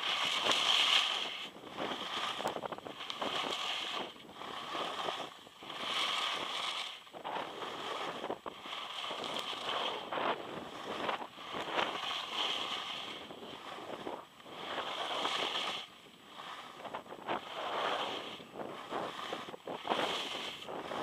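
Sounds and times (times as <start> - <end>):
skis scraping on snow: 0.0 - 21.0
wind across microphone: 0.0 - 21.0.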